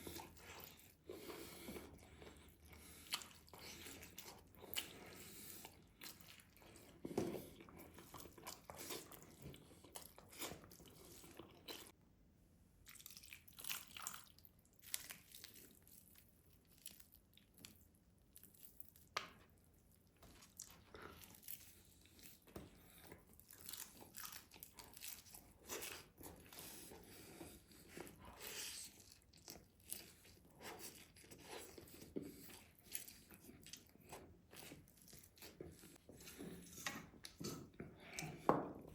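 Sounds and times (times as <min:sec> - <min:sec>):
person chewing food: 0:00.0 - 0:12.0, 0:12.8 - 0:38.9.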